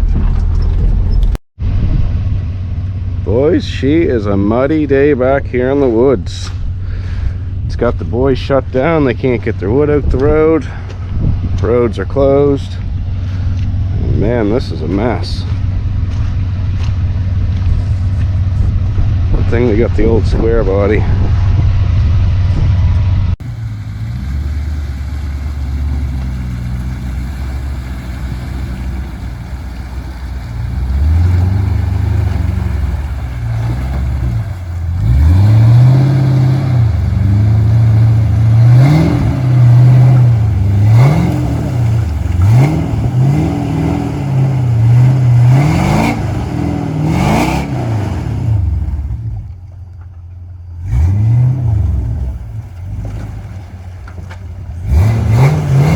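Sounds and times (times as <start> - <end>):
engine revving up and down: 8.7 - 49.5, 50.8 - 53.7, 54.8 - 55.9.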